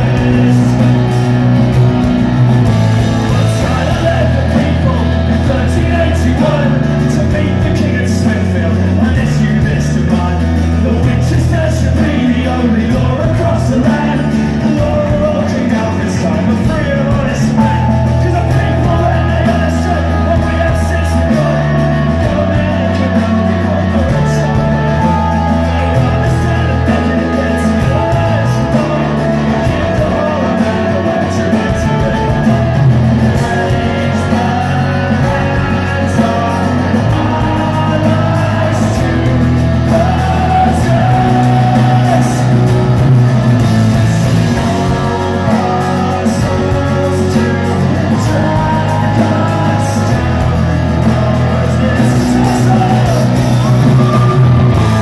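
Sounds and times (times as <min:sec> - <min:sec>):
live rock band playing: 0:00.0 - 0:55.0
male lead vocal: 0:00.0 - 0:55.0.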